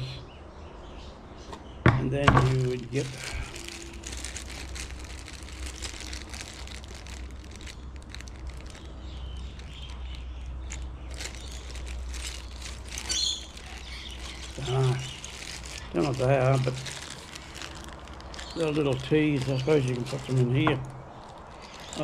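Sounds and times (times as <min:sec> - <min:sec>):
small parts clicking and rustling: 0:02.3 - 0:22.0.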